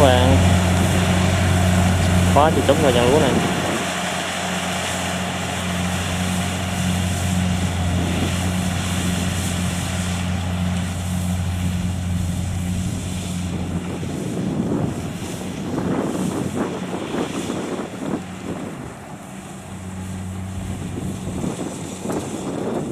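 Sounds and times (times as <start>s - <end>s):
diesel engine drone: 0.0s - 22.9s.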